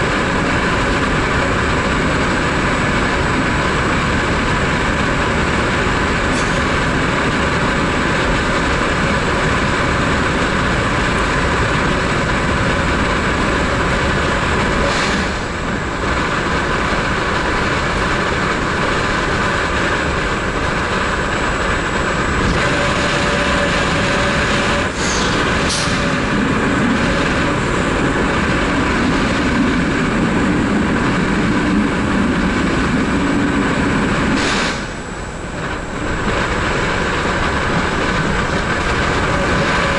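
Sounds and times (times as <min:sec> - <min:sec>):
train rumble and hiss: 0:00.0 - 0:39.9.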